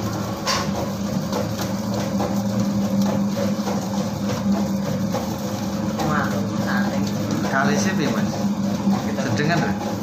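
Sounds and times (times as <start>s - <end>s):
dough mixer motor humming: 0.0s - 10.0s.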